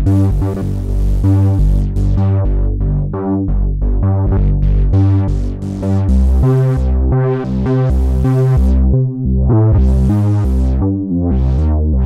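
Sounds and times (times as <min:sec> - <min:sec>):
synthesizer bass notes: 0:00.0 - 0:12.0.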